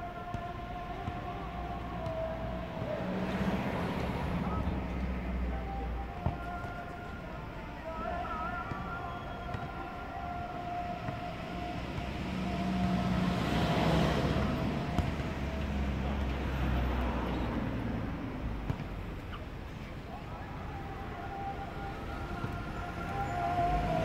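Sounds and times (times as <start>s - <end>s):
road vehicle passing: 0.7s - 8.8s, 10.4s - 24.0s.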